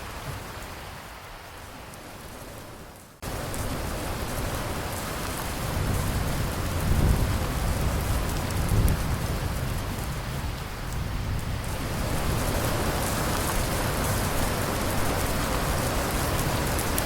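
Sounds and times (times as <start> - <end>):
heavy rain hiss: 0.0 - 17.0
low rolling thunder: 3.2 - 17.0.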